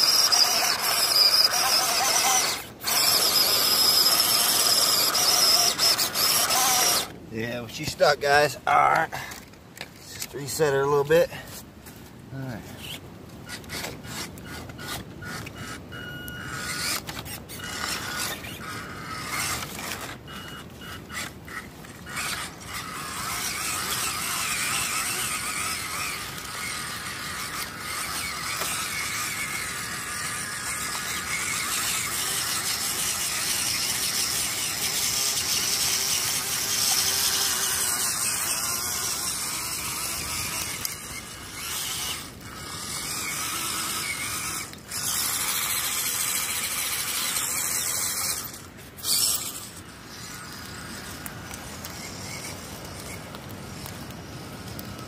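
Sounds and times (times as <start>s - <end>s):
electric motor and gearbox whining: 0.0s - 55.0s.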